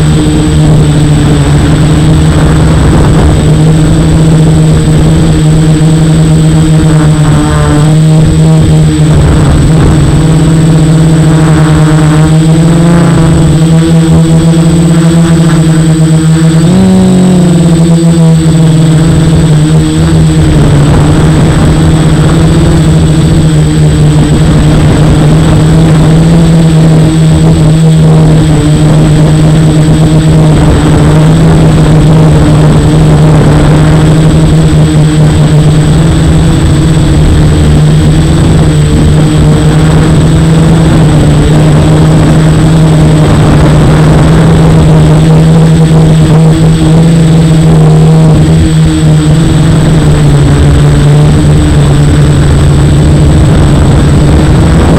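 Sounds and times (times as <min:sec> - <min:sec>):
quadcopter propellers droning: 0:00.0 - 0:54.9
thin high whine: 0:00.0 - 0:54.9.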